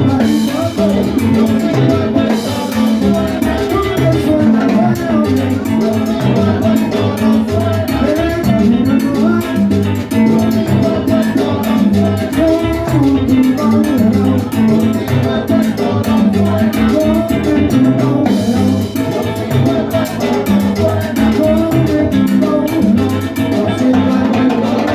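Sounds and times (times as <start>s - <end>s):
salsa band playing: 0.0s - 24.9s.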